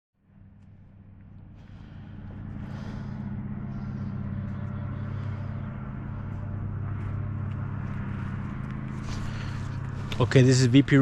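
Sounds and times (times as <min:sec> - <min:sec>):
low engine-like hum: 0:00.2 - 0:11.0.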